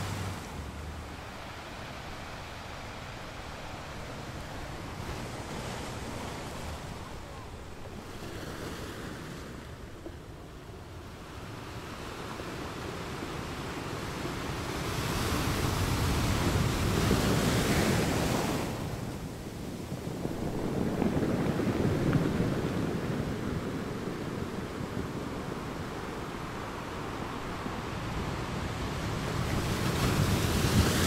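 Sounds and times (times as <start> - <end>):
ocean waves washing on shore: 0.0 - 31.0.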